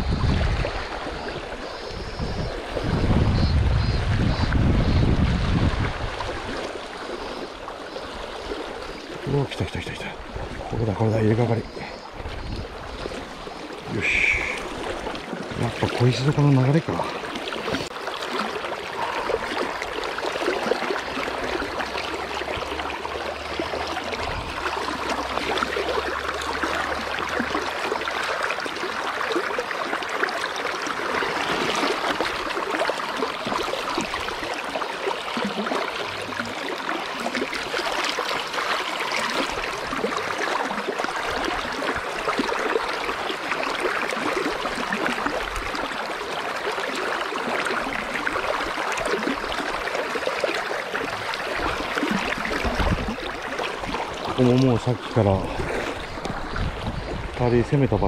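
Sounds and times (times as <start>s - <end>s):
river flowing over pebbles: 0.0s - 58.0s.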